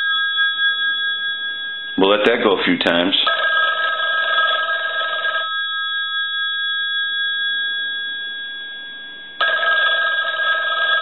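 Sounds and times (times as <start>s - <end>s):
telephone bell ringing: 0.0s - 2.0s, 3.3s - 11.0s.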